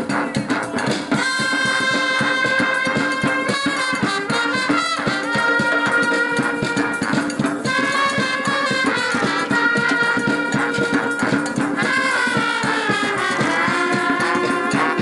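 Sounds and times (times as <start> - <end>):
brass band music: 0.0 - 15.0.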